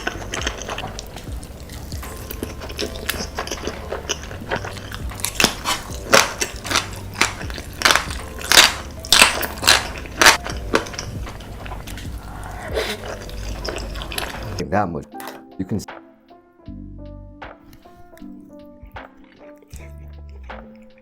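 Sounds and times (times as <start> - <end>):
person chewing crunchy food: 0.0 - 14.6, 17.6 - 21.0.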